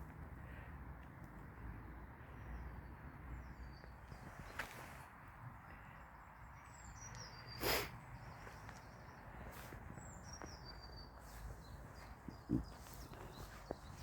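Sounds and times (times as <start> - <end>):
songbird singing: 1.8 - 14.0.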